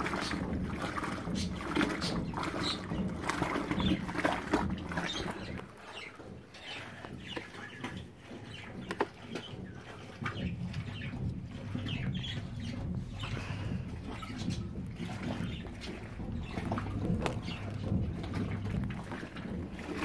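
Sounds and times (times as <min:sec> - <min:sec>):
washing machine motor hum: 0:00.0 - 0:20.0
water and clothes sloshing: 0:00.0 - 0:20.0.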